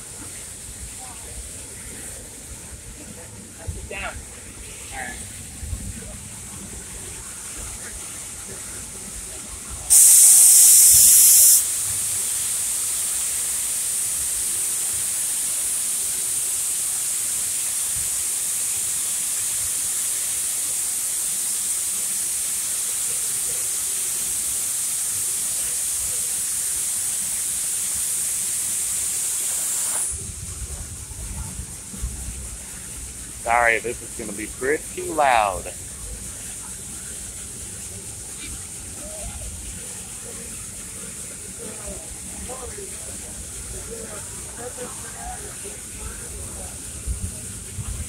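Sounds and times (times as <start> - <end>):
steam locomotive hissing steam: 0.0 - 48.0.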